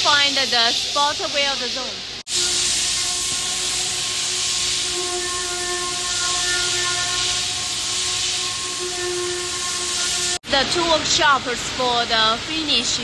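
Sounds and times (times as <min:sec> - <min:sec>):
faint machinery hum: 0:00.0 - 0:13.0
ventilation hiss: 0:00.0 - 0:13.0.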